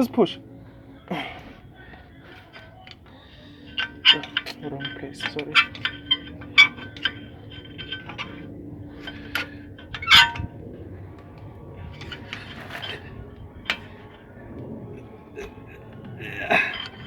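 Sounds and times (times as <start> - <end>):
ringing metal clink: 0.0 - 17.0
screwdriver clinking and scraping metal: 1.0 - 17.0.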